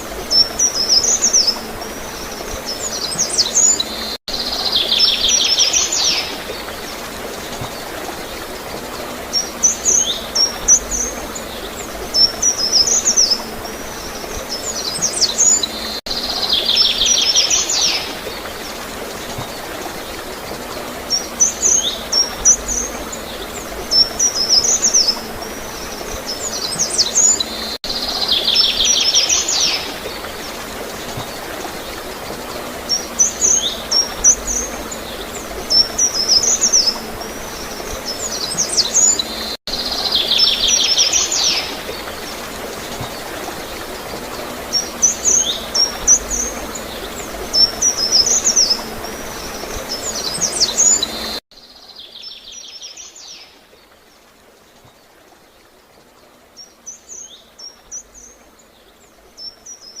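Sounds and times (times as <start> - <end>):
water gurgling and flowing: 0.0 - 51.4
songbirds chirping: 0.0 - 60.0.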